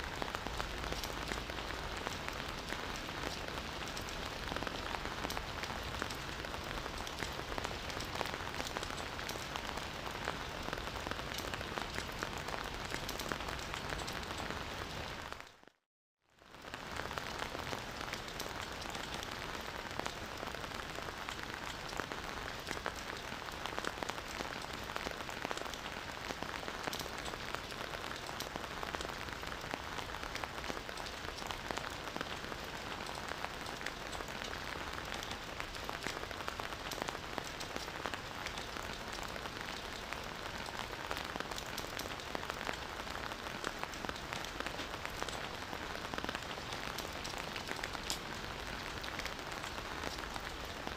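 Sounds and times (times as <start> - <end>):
rain falling: 0.0 - 15.8, 16.4 - 50.9.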